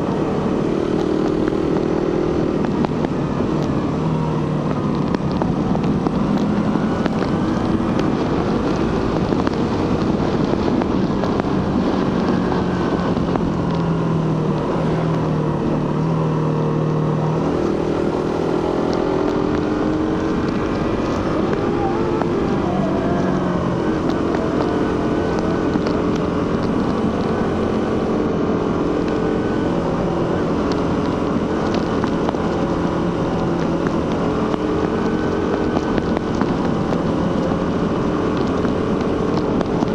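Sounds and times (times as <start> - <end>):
motorcycle engine riding: 0.0 - 39.9
wind noise on microphone: 0.0 - 39.9.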